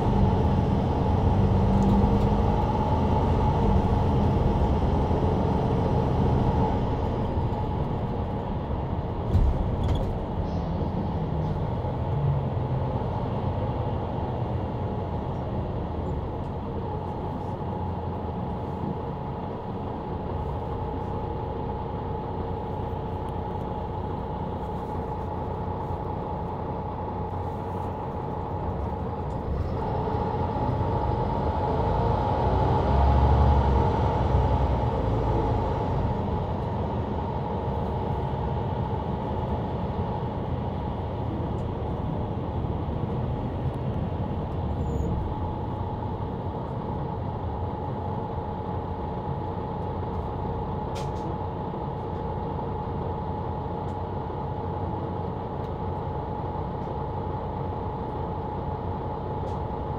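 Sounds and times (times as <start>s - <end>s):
bus engine and drivetrain whine: 0.0s - 59.9s.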